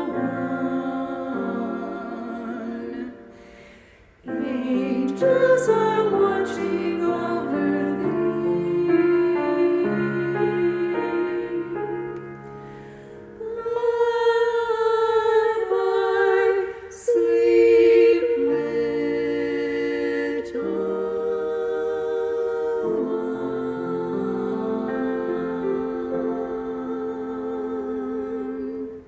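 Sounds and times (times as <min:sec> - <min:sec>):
vocal trio singing in harmony: 0:00.0 - 0:29.0.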